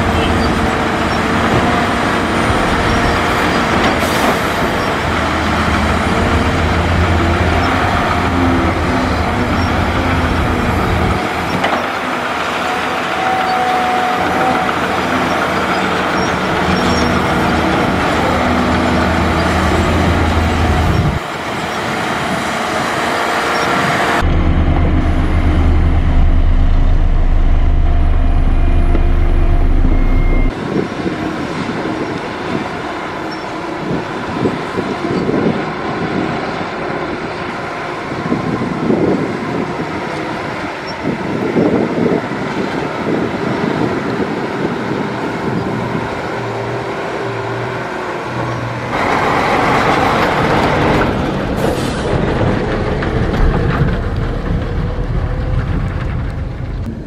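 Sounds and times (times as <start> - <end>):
dump truck driving past: 0.0 - 41.4, 42.3 - 57.0
heavy machinery running: 0.0 - 57.0.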